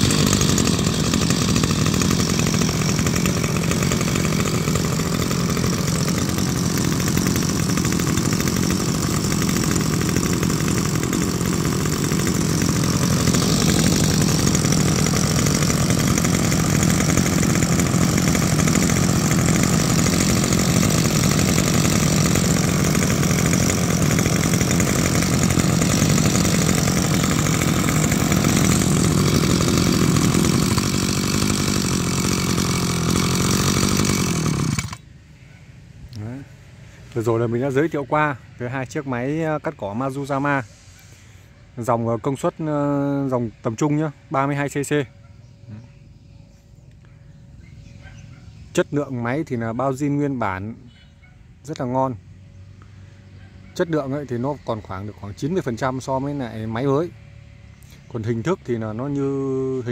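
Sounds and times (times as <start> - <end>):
brush cutter engine idling: 0.0 - 59.9.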